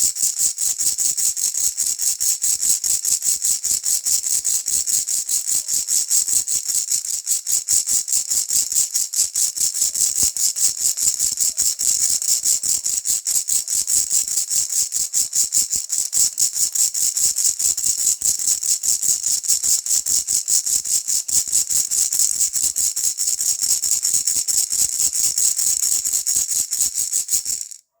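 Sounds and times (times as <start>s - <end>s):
plastic baby rattle shaken: 0.0s - 27.9s.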